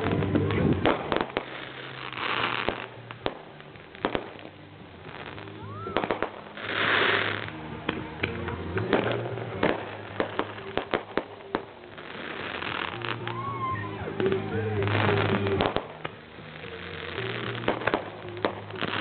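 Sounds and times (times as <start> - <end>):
fireworks bangs and pops: 0.0 - 19.0
fireworks crackling hiss: 0.0 - 19.0.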